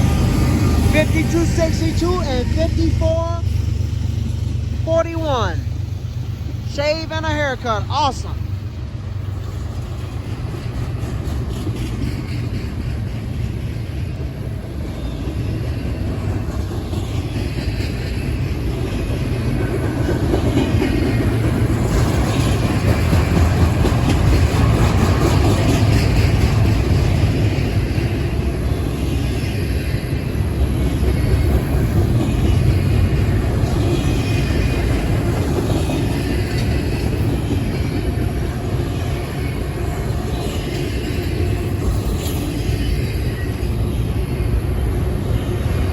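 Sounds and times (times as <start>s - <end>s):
freight train wheels rumbling on rails: 0.0s - 45.9s.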